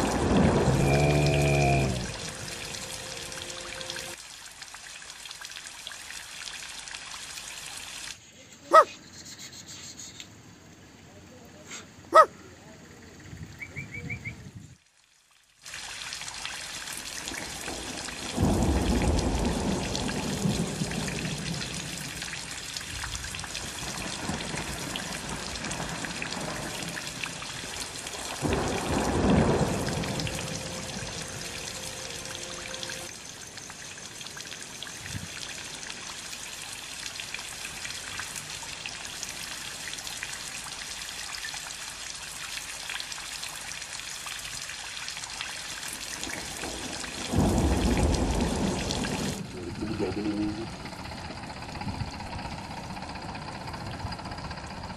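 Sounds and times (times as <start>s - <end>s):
steady rain falling: 0.0s - 8.8s, 14.7s - 54.8s.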